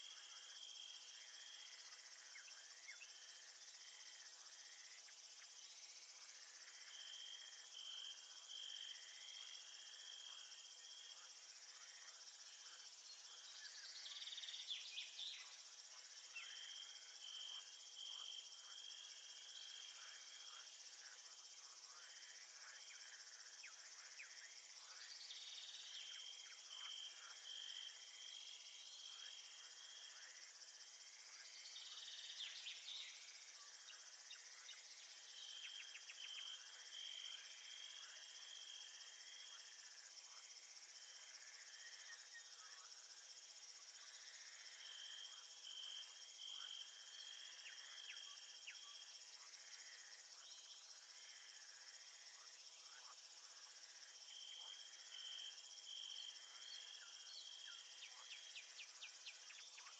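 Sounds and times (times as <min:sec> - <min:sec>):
crickets and insects chirping: 0:00.0 - 0:59.9
insect pulsed trill: 0:00.0 - 0:59.9.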